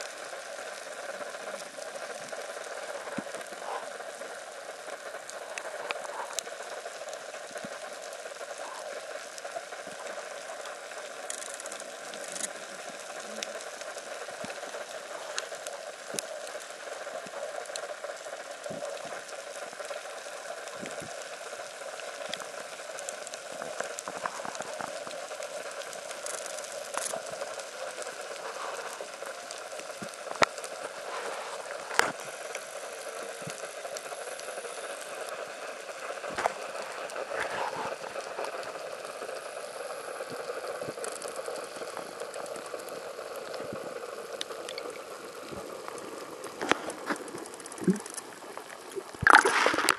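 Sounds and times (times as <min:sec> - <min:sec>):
underwater crackling hiss: 0:00.0 - 0:49.9
sharp underwater clicks: 0:00.2 - 0:31.0, 0:40.2 - 0:49.9.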